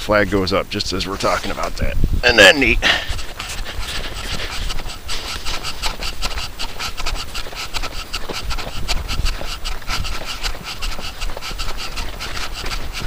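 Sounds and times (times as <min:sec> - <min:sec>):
wind rumbling on microphone: 0:00.0 - 0:13.0
boots crunching through snow: 0:02.4 - 0:13.0.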